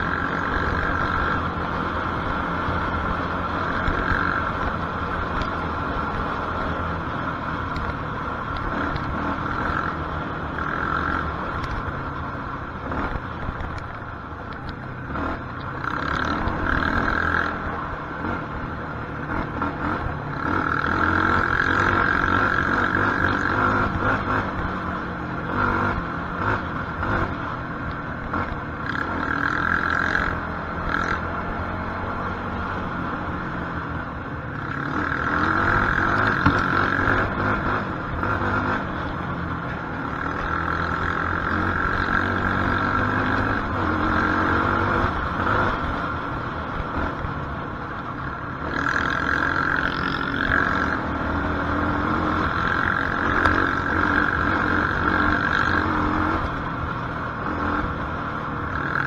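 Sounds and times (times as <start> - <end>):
quad bike engine revving: 0.0 - 11.8, 15.0 - 18.6, 19.2 - 27.6, 28.2 - 59.0.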